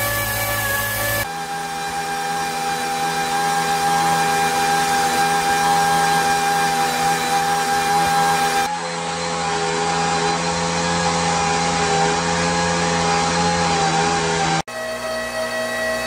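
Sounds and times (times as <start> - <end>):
two-stroke engine running: 0.0 - 16.0.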